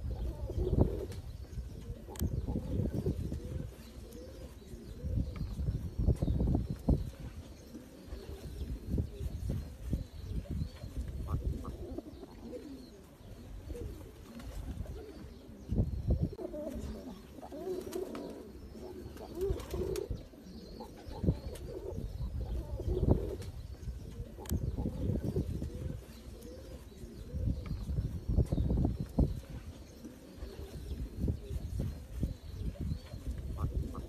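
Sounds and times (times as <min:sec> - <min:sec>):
pigeons cooing: 0:00.0 - 0:34.0.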